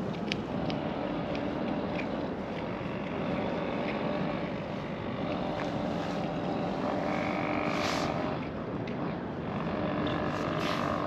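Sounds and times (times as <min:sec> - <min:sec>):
faint mechanical hum: 0:00.0 - 0:11.0
outdoor background noise: 0:00.0 - 0:11.0.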